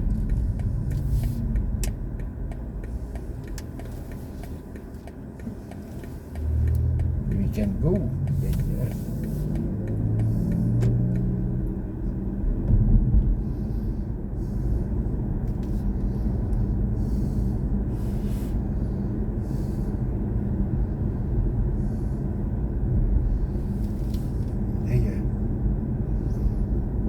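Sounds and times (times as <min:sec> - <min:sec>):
road and tyre rumble in car: 0:00.0 - 0:27.0.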